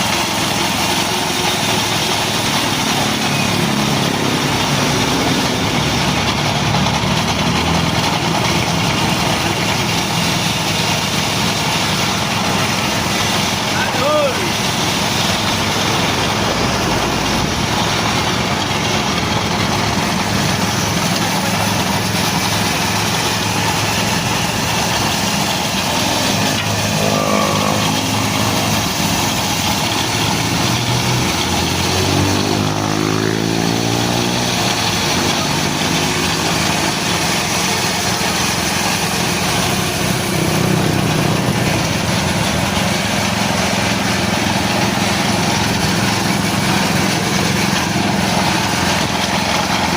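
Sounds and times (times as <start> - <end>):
petrol engine driving bandsaw: 0.0 - 49.9.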